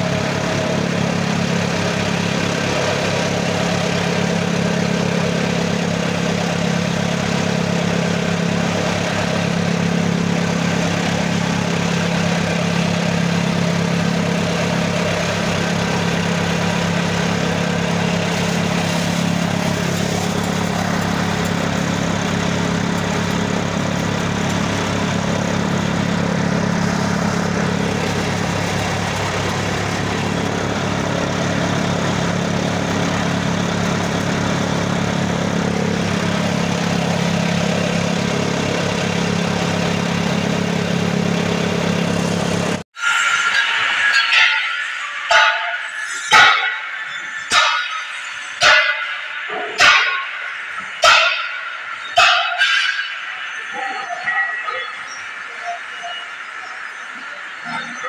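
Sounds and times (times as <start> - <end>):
tractor engine and chaff cutter drone: 0.0 - 58.0.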